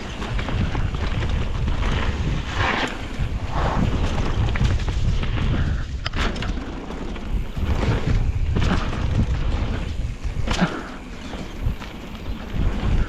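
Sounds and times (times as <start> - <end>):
bike rattles and knocks: 0.0 - 13.0
wind buffeting microphone: 0.0 - 13.0.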